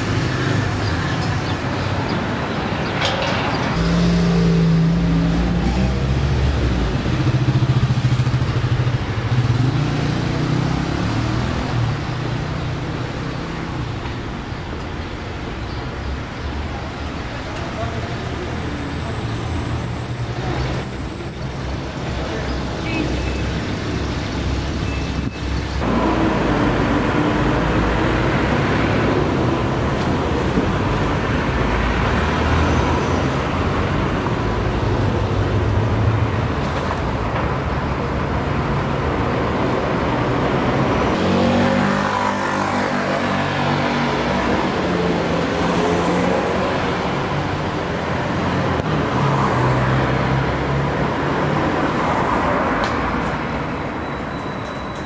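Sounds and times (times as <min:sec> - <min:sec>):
traffic passing: 0:00.0 - 0:55.0.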